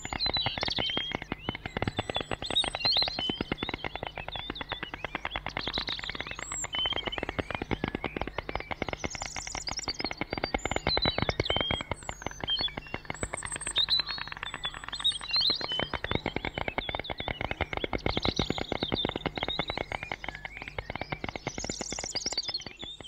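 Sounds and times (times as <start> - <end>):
small birds chirping: 0.0 - 23.0
storks clattering bills: 0.1 - 22.3.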